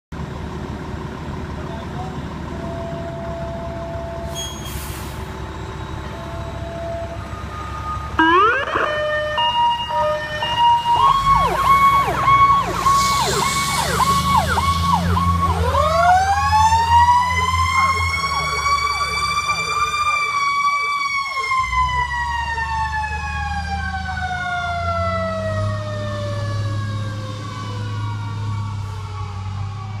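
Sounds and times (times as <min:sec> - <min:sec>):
truck engine rumble: 0:00.1 - 0:30.0
fire engine siren: 0:01.9 - 0:30.0.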